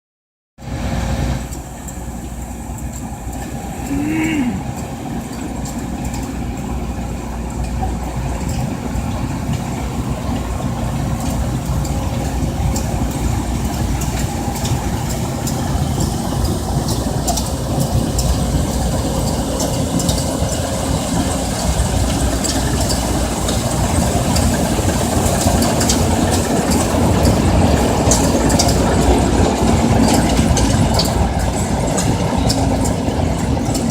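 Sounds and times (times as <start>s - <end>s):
combine harvester engine drone: 0.6s - 33.9s
machinery rattle: 1.4s - 33.9s.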